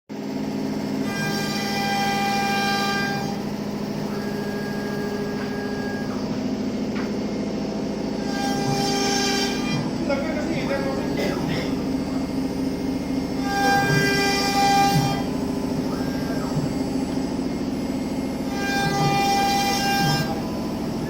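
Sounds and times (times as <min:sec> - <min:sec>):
high machine whine: 0:00.1 - 0:21.0
router machine humming: 0:00.2 - 0:21.0.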